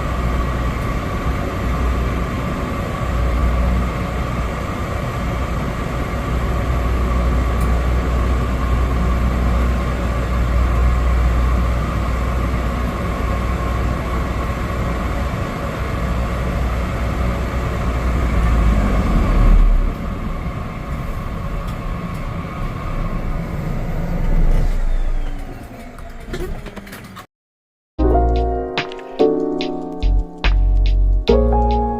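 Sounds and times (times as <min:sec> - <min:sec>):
turboprop engine cabin noise: 0:00.0 - 0:27.2.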